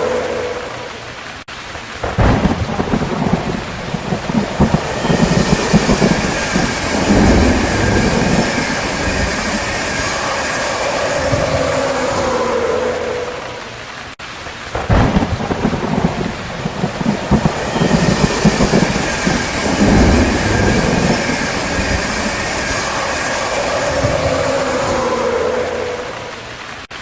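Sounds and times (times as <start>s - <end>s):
heavy rain hissing: 0.0s - 27.0s
thunder rumbling: 0.0s - 27.0s.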